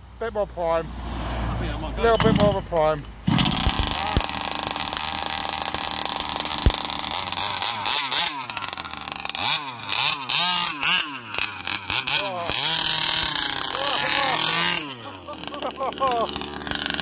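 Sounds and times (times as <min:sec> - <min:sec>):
two-stroke engine revving: 0:03.2 - 0:17.0.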